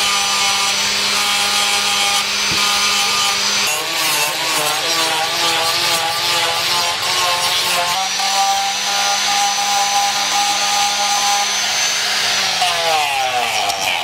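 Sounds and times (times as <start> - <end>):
rasping sanding noise: 0.0 - 13.6
angle grinder motor whine: 0.0 - 14.0.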